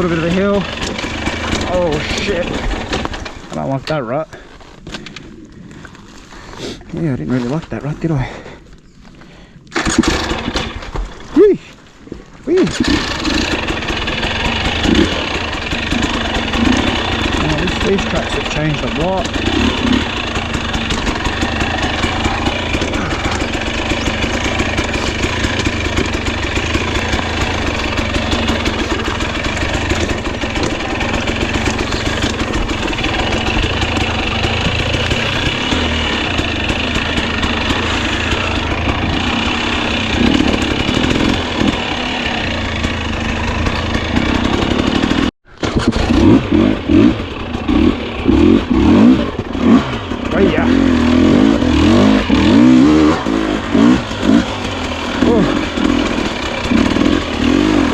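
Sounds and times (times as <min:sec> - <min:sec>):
dirt bike engine running: 0:00.0 - 0:06.0, 0:09.8 - 0:11.6, 0:12.5 - 0:57.9.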